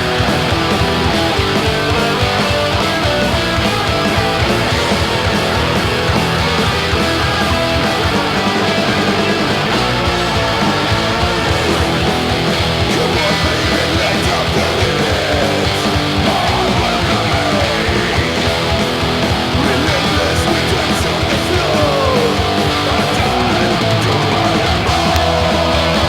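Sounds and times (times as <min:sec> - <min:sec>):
punk rock song from vinyl: 0:00.0 - 0:26.0.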